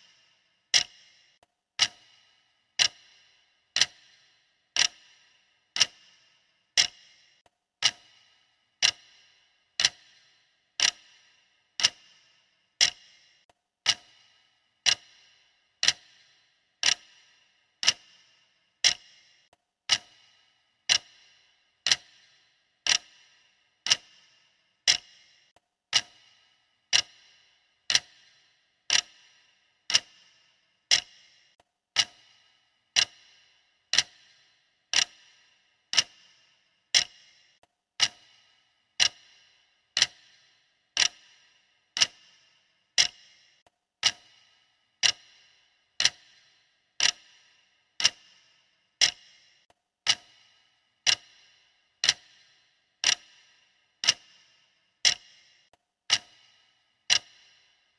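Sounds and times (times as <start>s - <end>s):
timer clock ticking: 0.0s - 57.9s.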